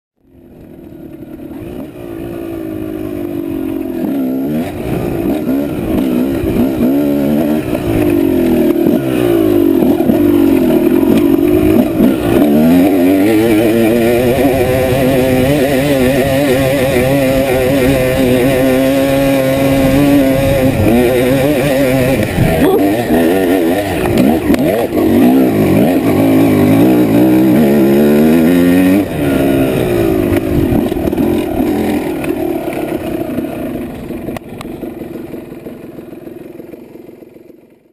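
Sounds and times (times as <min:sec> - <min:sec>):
dirt bike engine revving: 0:00.2 - 0:37.9.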